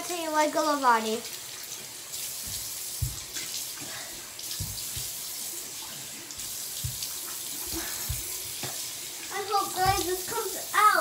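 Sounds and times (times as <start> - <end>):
sink tap running: 0.0 - 11.0.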